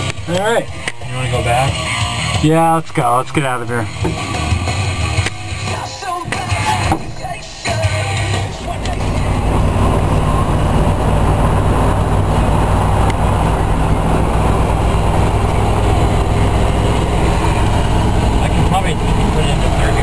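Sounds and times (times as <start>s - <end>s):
pickup engine running in low gear: 0.0s - 20.0s
road noise: 0.0s - 20.0s.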